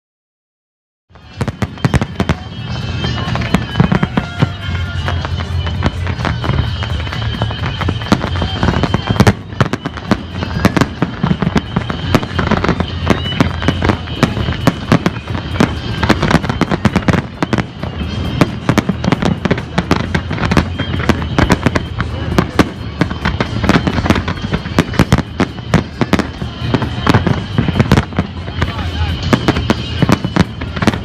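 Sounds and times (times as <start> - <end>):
faint music: 1.1 - 31.0
faint voices: 1.1 - 31.0
fireworks bangs and crackles: 1.1 - 31.0.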